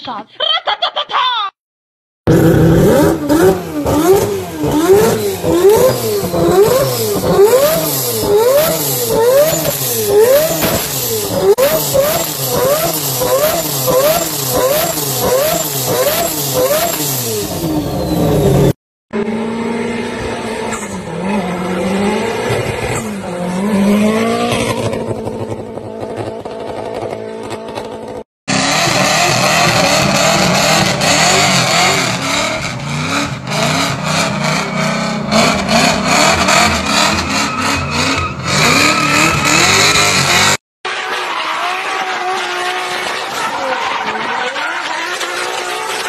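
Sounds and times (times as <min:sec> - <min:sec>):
car engine revving: 0:02.3 - 0:46.0
drifting car engine: 0:02.3 - 0:46.0.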